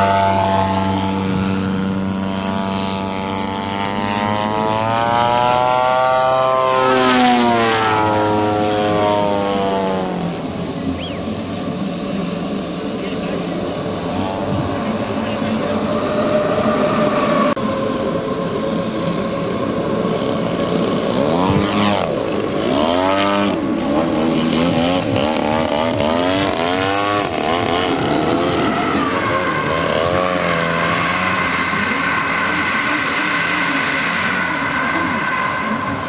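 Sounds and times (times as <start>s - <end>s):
model plane engine and propeller: 0.0s - 36.0s.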